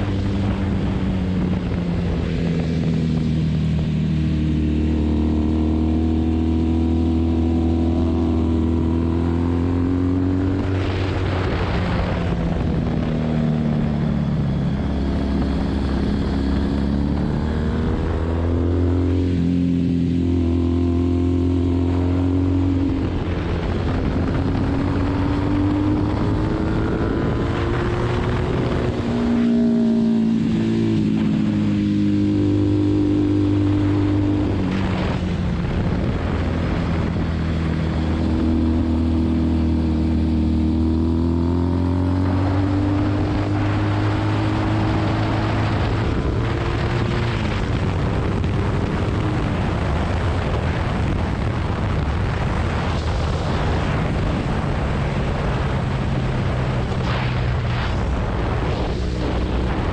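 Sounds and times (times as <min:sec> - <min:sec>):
motorcycle engine accelerating: 0:00.0 - 0:59.9
wind rushing over camera: 0:00.0 - 0:59.9.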